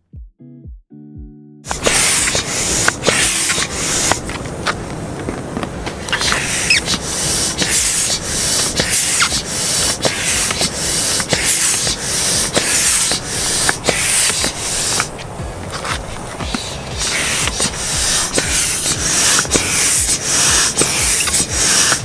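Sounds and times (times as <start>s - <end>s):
hand pump air hissing: 1.7s - 22.0s.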